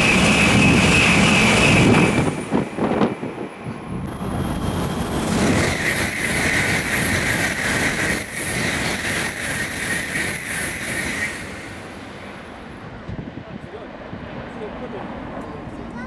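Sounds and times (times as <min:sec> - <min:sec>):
bullet train passing at speed: 0:00.0 - 0:16.0.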